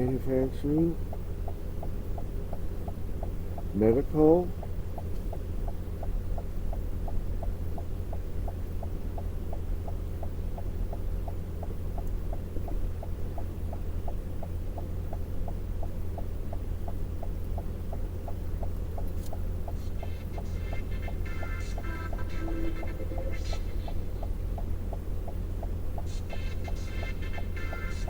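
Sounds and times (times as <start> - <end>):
light regular ticking: 0.0 - 28.0.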